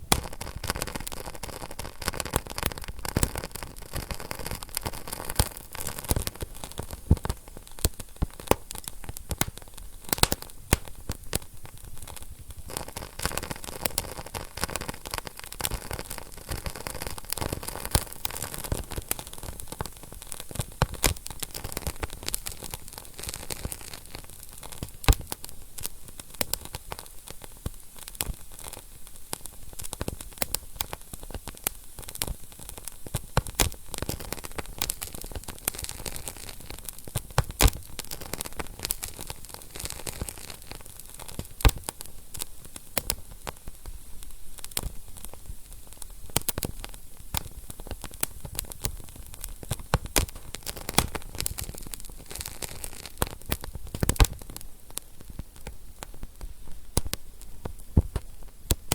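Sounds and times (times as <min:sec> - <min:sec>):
fire hissing: 0:00.0 - 0:58.9
wood fire crackling and popping: 0:00.0 - 0:58.9.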